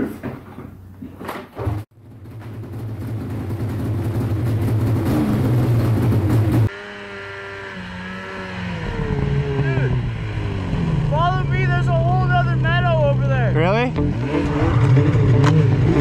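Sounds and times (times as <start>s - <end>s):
snowmobile engine starting and running: 1.9s - 16.0s.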